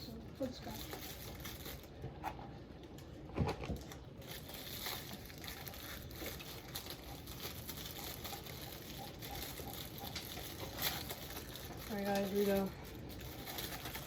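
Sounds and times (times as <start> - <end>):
plastic wrappers crinkling: 0.0 - 14.0.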